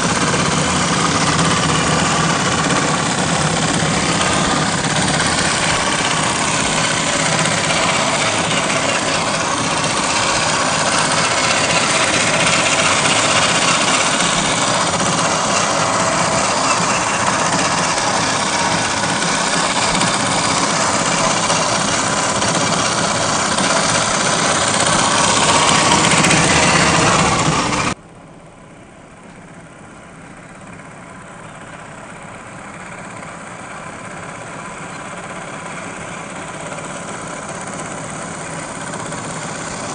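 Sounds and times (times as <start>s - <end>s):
toy truck engine running: 0.0s - 28.0s, 30.4s - 39.9s.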